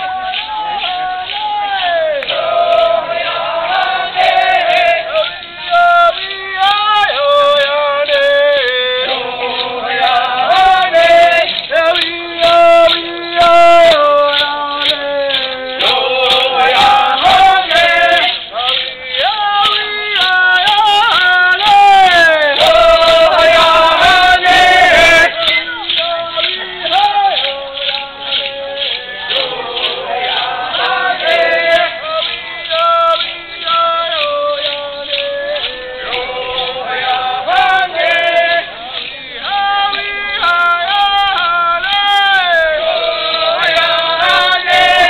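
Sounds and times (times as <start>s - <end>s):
steady quick beat: 0.0s - 45.0s
voices singing a chant: 0.0s - 45.0s.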